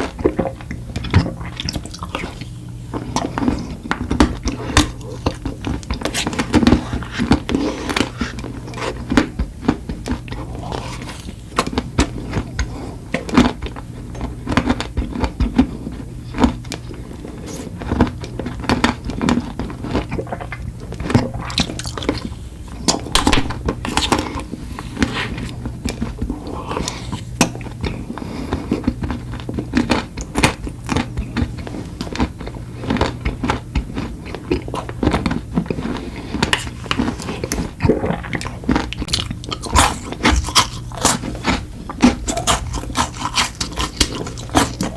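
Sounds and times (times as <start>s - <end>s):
chewing with crunches: 0.0s - 44.9s.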